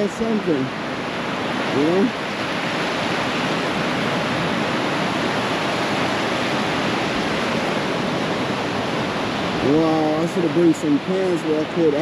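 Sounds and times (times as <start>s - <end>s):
ocean surf washing: 0.0s - 12.0s.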